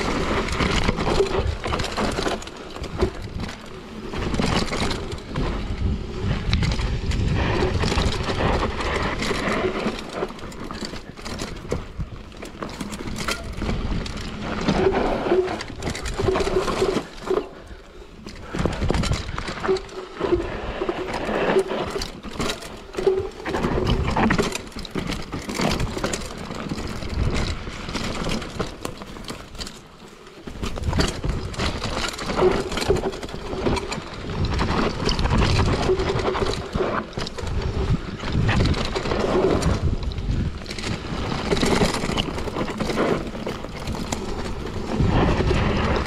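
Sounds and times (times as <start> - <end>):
bike rattling over bumps: 0.0 - 46.0
bike tyres rolling over dirt: 0.0 - 46.0.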